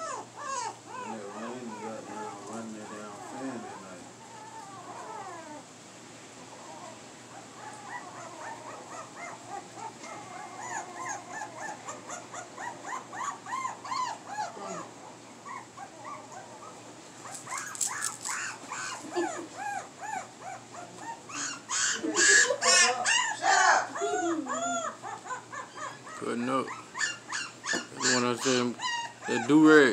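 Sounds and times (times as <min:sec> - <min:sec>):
puppies whining and yelping: 0:00.0 - 0:05.8, 0:06.4 - 0:29.9.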